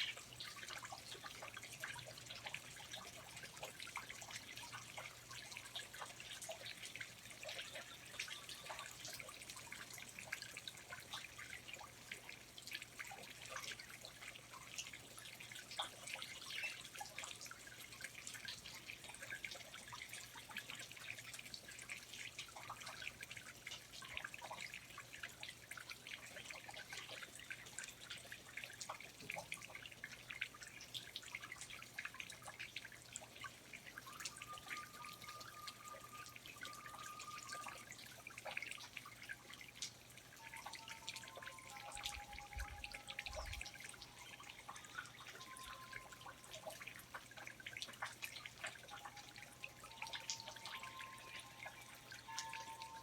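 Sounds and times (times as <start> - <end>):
water dripping: 0.0 - 53.0.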